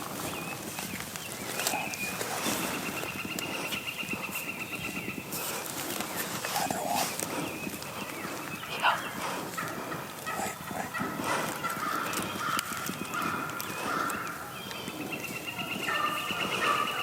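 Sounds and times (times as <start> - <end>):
turkey calls: 0.0 - 17.0.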